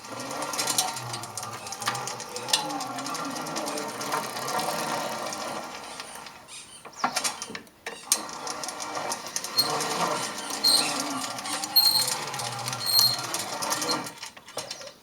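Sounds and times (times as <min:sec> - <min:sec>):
machine rollers and gears rattling: 0:00.0 - 0:06.6, 0:07.2 - 0:15.0.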